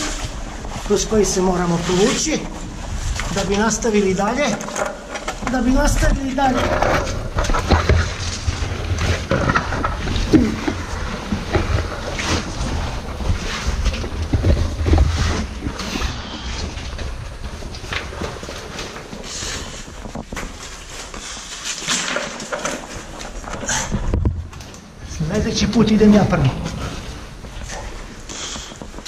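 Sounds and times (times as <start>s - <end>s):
stones scraping and clattering: 0.0s - 24.8s.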